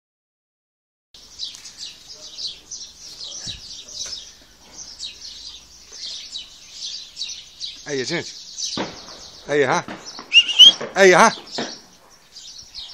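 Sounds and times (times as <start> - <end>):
small birds chirping: 1.2 - 12.9.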